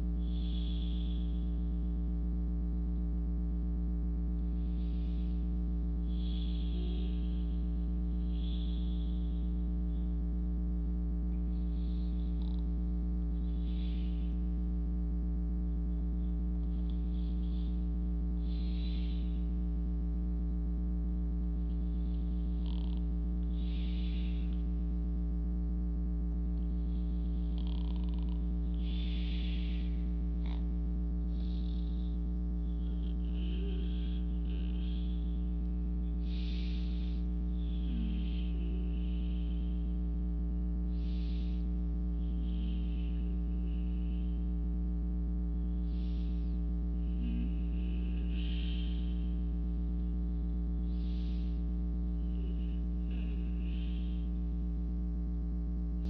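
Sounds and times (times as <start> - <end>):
person breathing softly: 0.0 - 2.3, 4.2 - 55.0
steady low hum: 0.0 - 56.0.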